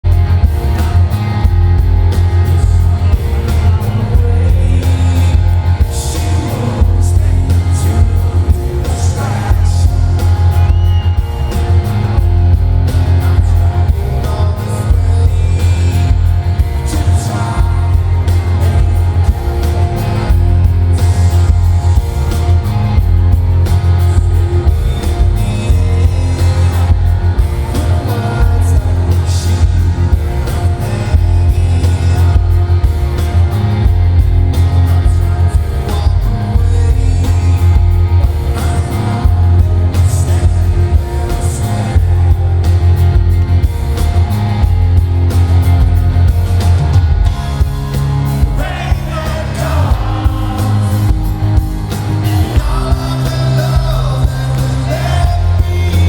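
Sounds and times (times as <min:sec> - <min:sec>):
heavy booming bass: 0:00.0 - 0:56.0
live rock band playing: 0:00.0 - 0:56.0.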